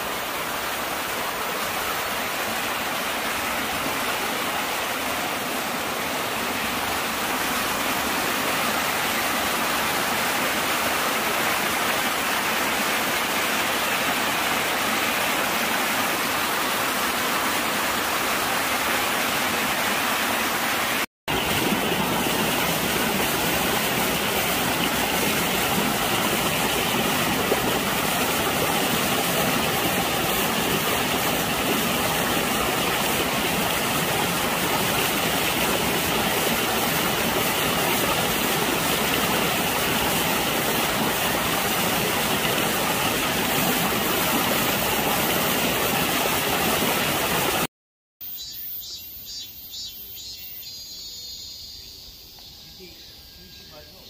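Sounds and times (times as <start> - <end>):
water rushing: 0.0 - 47.7.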